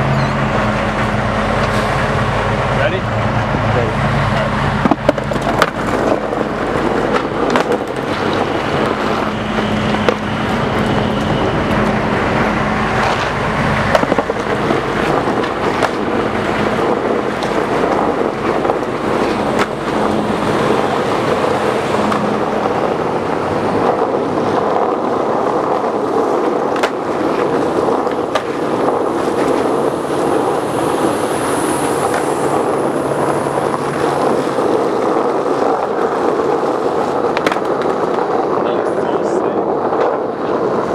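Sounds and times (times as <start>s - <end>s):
skateboard wheels rolling on asphalt: 0.0s - 40.9s
skateboard clacking: 4.8s - 31.1s, 32.0s - 40.9s.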